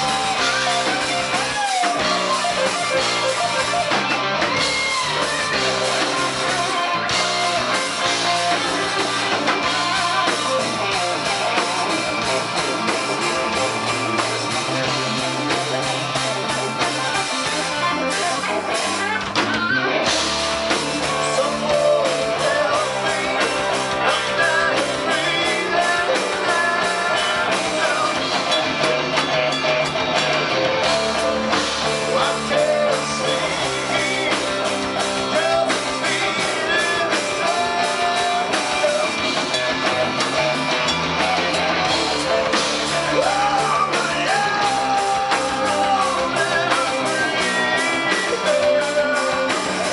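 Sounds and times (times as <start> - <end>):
bass guitar: 0.0 - 49.9
drums: 0.0 - 49.9
electric guitars: 0.0 - 49.9.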